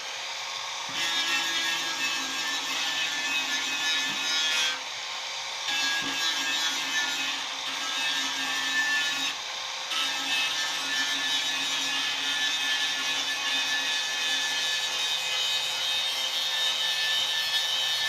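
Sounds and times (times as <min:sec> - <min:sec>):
tool scraping a surface: 0:00.9 - 0:04.8, 0:05.7 - 0:18.0.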